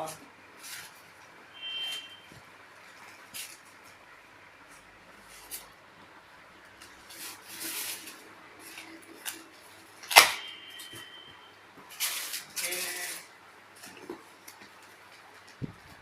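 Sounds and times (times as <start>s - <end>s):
packaging rustling and scraping: 0.6s - 4.1s, 4.7s - 5.8s, 6.7s - 11.1s, 11.8s - 16.0s.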